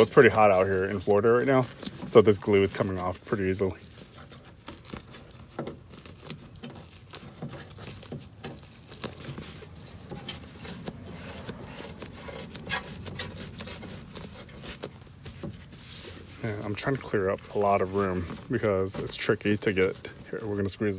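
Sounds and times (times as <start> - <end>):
glue peeling with rustles: 0.0 - 20.9.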